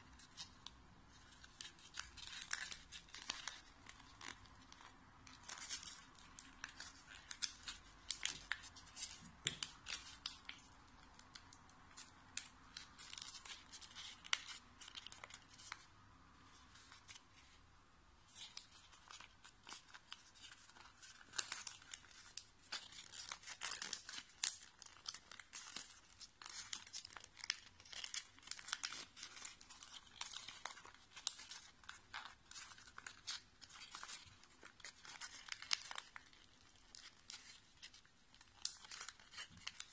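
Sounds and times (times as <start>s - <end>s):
paper crinkling and rustling: 0.0s - 17.6s, 18.3s - 39.9s.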